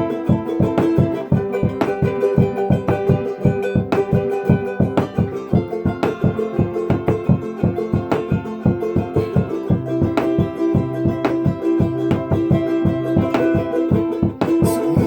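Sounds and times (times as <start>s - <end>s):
acoustic guitar strumming: 0.0s - 15.0s
held melody line: 0.0s - 15.0s.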